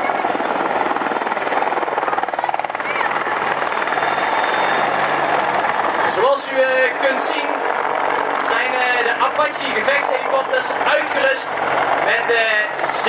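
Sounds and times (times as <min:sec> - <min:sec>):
helicopter engines rushing: 0:00.0 - 0:13.0
helicopter rotor blades chopping: 0:00.0 - 0:13.0.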